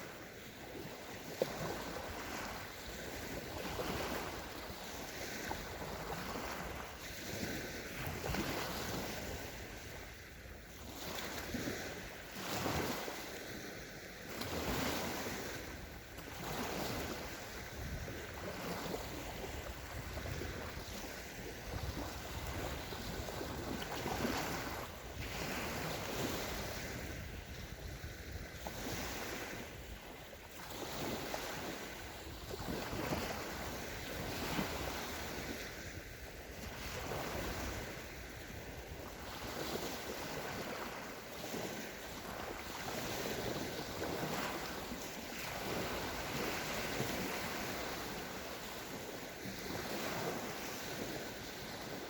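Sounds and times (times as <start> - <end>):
small waves washing on sand: 0.0 - 52.0.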